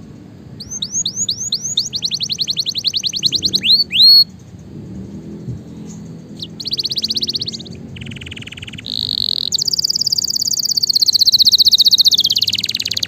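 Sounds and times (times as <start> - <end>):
canary singing: 0.5 - 13.0.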